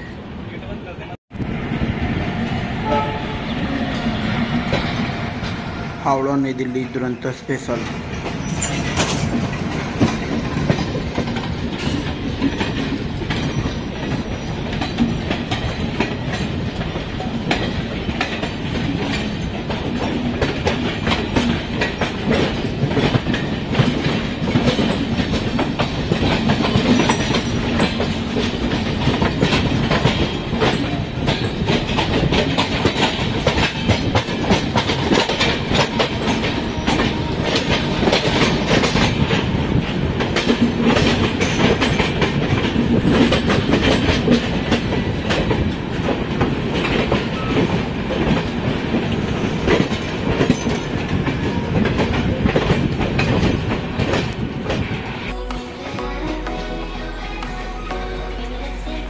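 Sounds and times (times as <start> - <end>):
train wheels clattering on rails: 7.6 - 55.3.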